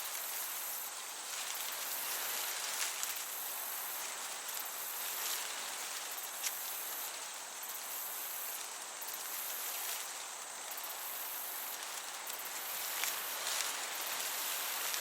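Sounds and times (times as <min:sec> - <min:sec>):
crickets chirping: 0:00.0 - 0:15.0
gentle breeze hiss: 0:00.0 - 0:15.0.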